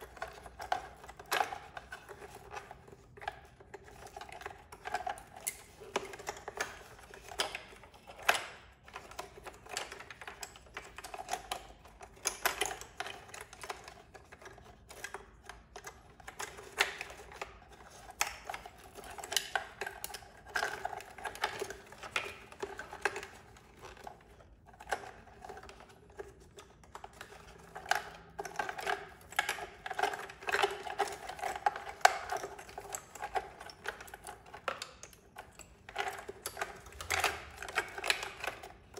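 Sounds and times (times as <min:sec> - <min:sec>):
plastic connectors clicking and rattling: 0:00.0 - 0:38.9.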